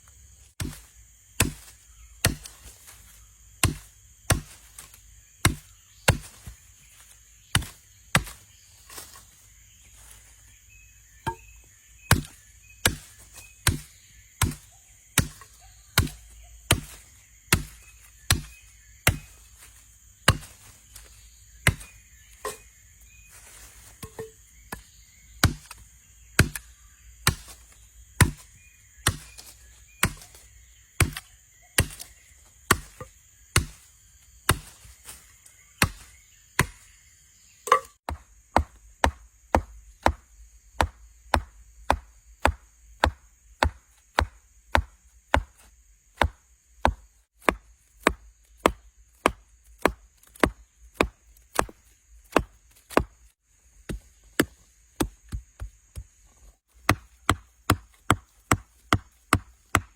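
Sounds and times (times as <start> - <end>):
blade chopping wood: 0.5 - 9.4, 11.2 - 22.7, 23.4 - 37.0, 37.6 - 56.1, 56.7 - 59.9.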